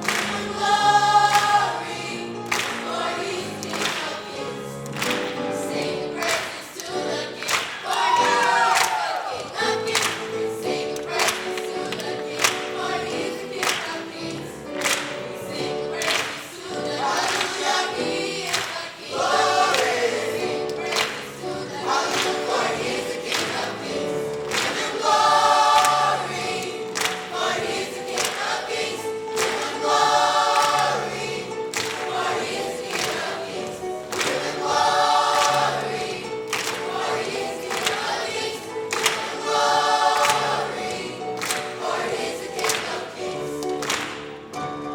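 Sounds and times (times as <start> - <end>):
gospel choir singing: 0.0 - 44.9.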